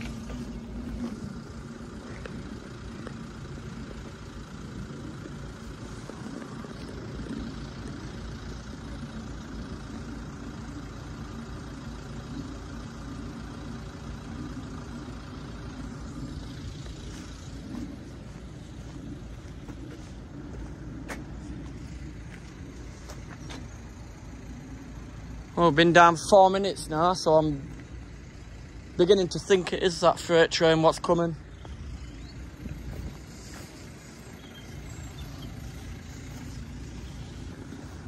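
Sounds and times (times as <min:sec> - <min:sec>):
vehicles idling low rumble: 0:00.0 - 0:38.0.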